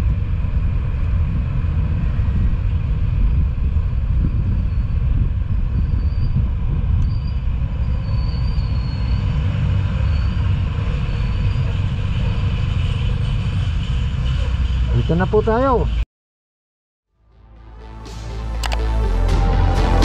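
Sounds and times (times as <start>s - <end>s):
road noise: 0.0s - 16.0s, 17.2s - 20.0s
wind rumble: 0.0s - 16.0s.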